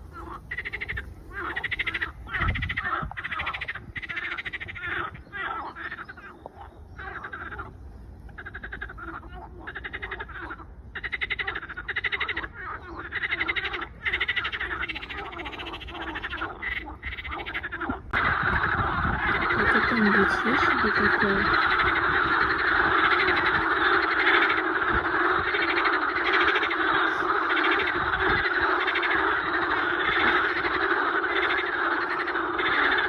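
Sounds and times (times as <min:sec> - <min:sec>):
frogs croaking: 0:00.0 - 0:33.0.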